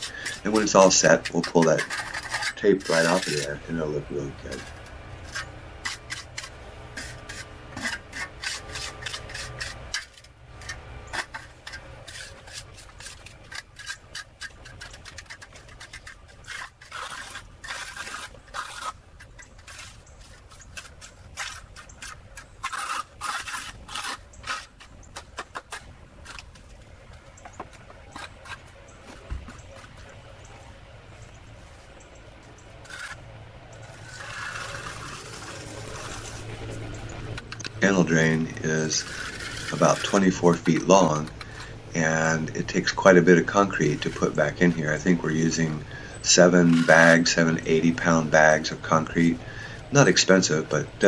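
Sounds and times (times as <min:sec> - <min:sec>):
trowel scraping wet concrete: 0:00.0 - 0:26.7, 0:27.6 - 0:30.6, 0:32.7 - 0:51.0.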